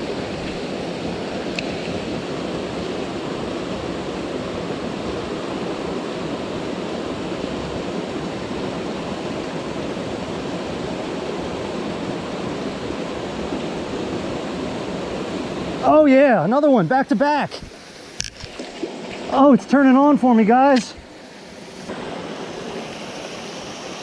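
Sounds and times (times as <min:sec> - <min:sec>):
waterfall rushing: 0:00.0 - 0:18.0, 0:18.9 - 0:24.0.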